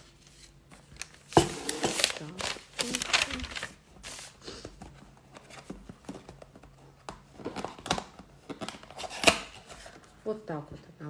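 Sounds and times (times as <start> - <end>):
packaging rustling and crinkling: 0.0 - 10.1.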